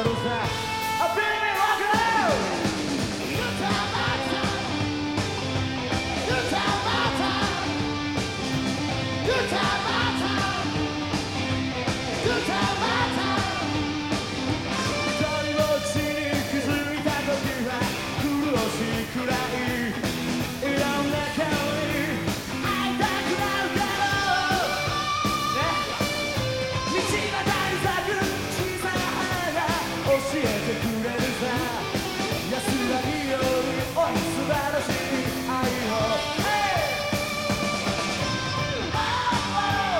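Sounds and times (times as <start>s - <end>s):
person singing and yelling: 0.0s - 5.1s, 6.2s - 8.0s, 9.2s - 11.0s, 12.1s - 13.9s, 14.7s - 39.9s
rock band playing live: 0.0s - 39.9s.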